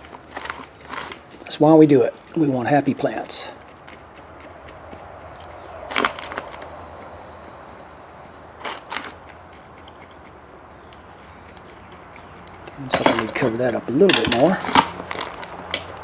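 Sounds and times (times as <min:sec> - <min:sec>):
potting soil scraping: 0:00.0 - 0:16.0.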